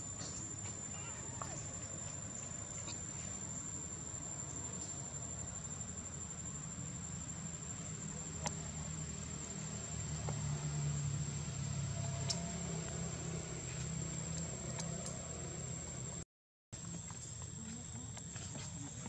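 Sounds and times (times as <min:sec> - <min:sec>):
low mechanical hum: 0:00.0 - 0:16.2.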